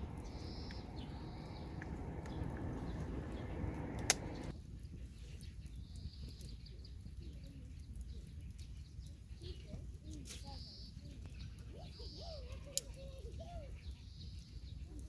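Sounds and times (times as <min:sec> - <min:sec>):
birds calling faintly: 0:00.0 - 0:15.0.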